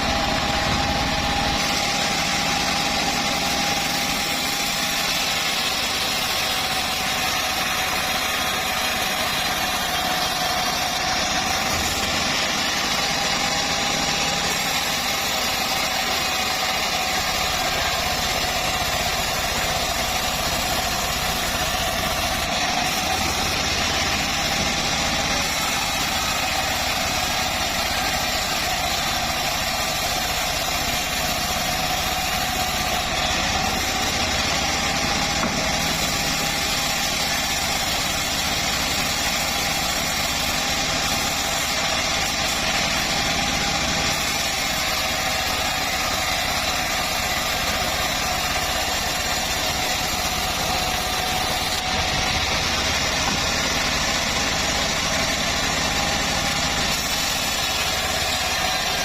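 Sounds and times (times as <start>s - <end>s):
bandsaw mill whining: 0.0s - 59.0s.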